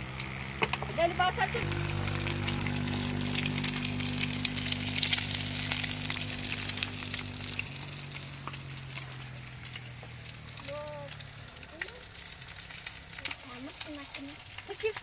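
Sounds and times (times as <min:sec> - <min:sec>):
low hum: 0:00.0 - 0:13.5
food sizzling in a pan: 0:00.0 - 0:15.0.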